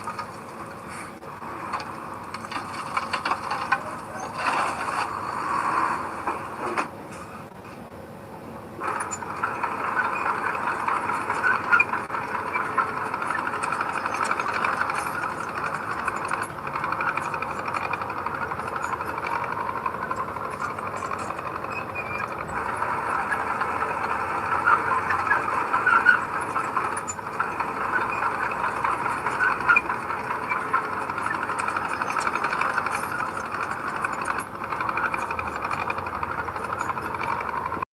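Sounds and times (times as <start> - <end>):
heavy earth-moving machinery running: 0.0 - 37.9.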